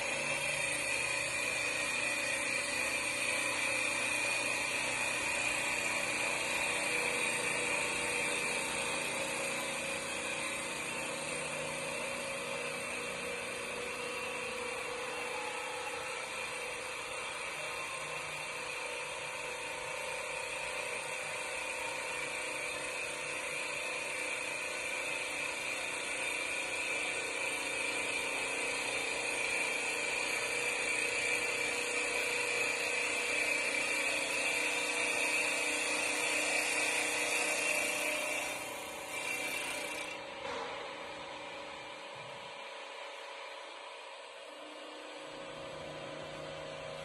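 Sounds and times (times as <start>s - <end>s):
wood lathe cutting: 0.0s - 40.2s.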